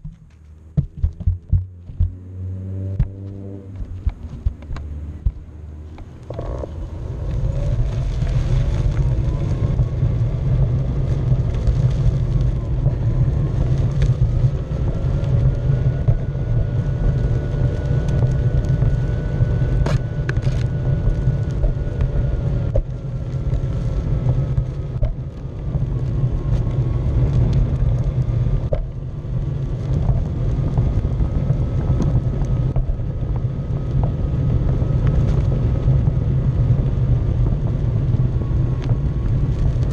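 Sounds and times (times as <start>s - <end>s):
wheel rumbling on path: 0.0s - 39.9s
wind on microphone: 0.8s - 39.9s.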